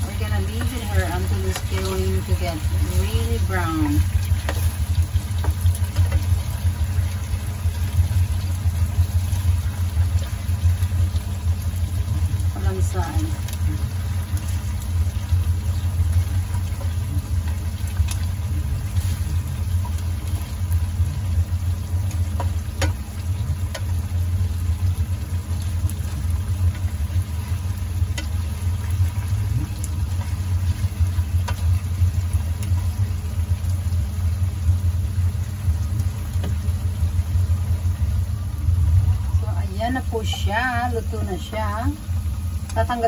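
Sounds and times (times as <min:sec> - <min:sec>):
chicken frying in oil: 0:00.0 - 0:43.0
oil popping and crackling: 0:00.0 - 0:43.0
steady low hum: 0:00.0 - 0:43.0.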